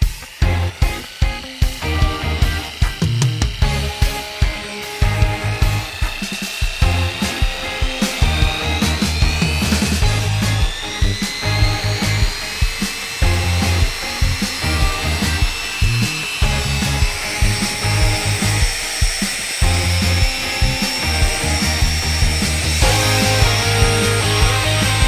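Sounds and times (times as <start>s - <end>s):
background music with steady beat: 0.0s - 25.0s
hand mixer motor whine: 0.0s - 25.0s.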